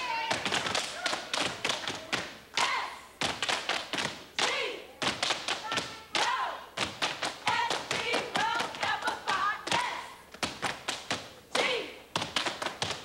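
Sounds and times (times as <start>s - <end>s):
stomps claps and cane strikes: 0.2s - 13.0s.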